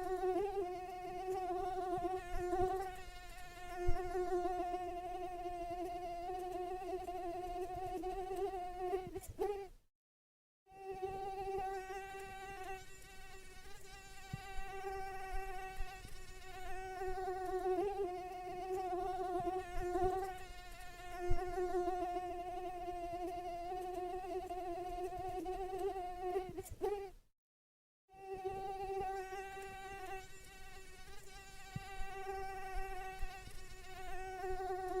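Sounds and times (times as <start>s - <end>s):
mosquito whine: 0.0s - 9.7s, 10.7s - 27.1s, 28.1s - 35.0s.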